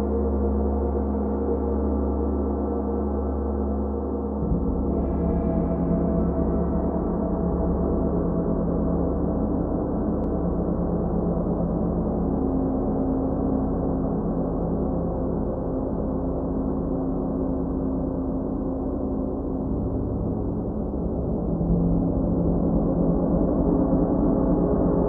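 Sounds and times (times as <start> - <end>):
ambient drone music: 0.0 - 25.0.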